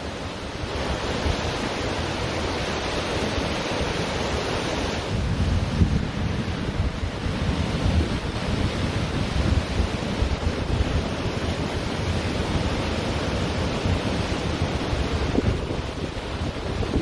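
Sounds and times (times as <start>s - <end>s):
ocean surf washing onto beach: 0.0s - 17.0s
wind buffeting the microphone: 0.5s - 17.0s.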